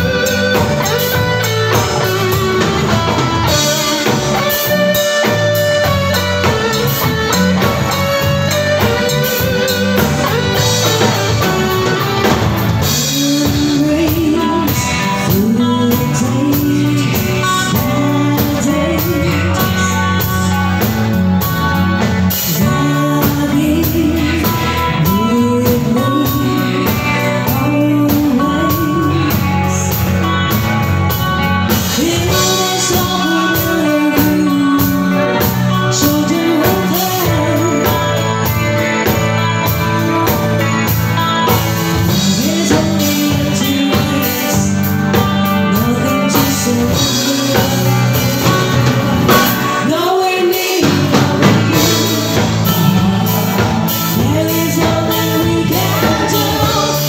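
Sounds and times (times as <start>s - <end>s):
live band playing: 0.0s - 57.0s.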